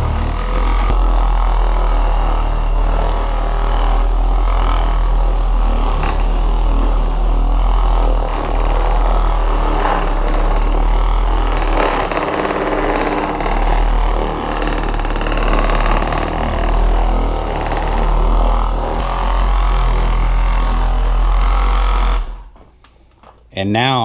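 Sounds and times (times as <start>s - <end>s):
orbital polisher running: 0.0s - 22.6s.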